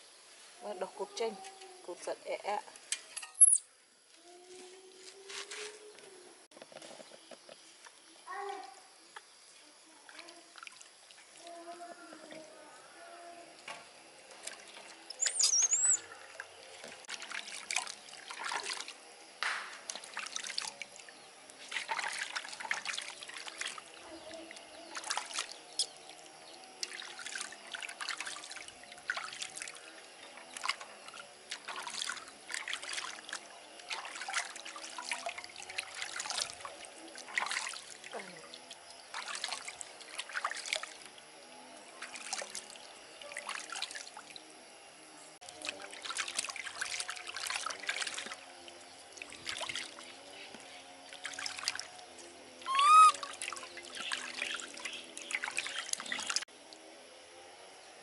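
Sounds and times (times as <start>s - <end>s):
water splashing and trickling: 9.4s - 12.7s, 13.4s - 57.0s.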